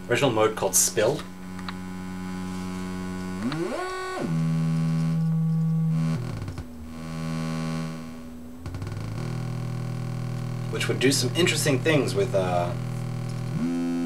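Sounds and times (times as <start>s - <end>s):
synth buzzing drone: 0.0s - 14.0s.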